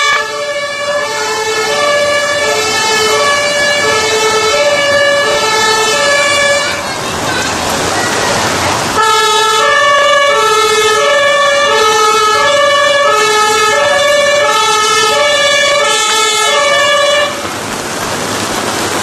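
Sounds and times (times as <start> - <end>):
higher alternating siren tones: 0.0 - 6.8, 9.0 - 17.4
two-tone emergency siren: 0.0 - 6.8, 9.0 - 17.4
heavy rain hiss: 0.9 - 12.2, 13.5 - 19.0.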